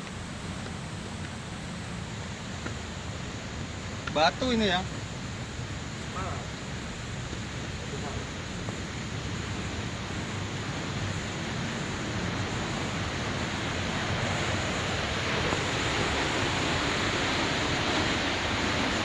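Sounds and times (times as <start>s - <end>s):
waterfall rushing water: 0.0s - 19.0s.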